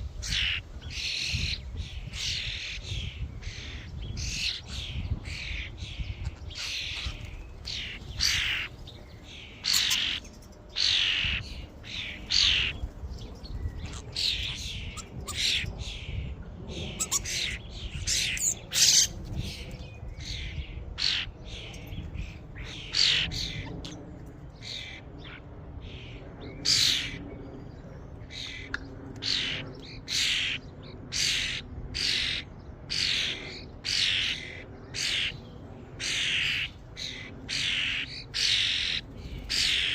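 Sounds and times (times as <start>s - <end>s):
starlings squawking: 0.0s - 24.0s, 24.6s - 27.3s, 28.2s - 39.9s.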